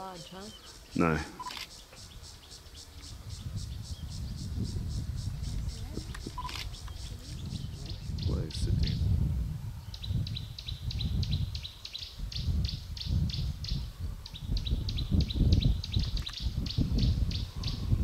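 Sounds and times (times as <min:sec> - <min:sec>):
bird chirping: 0:00.0 - 0:09.1, 0:09.8 - 0:18.0.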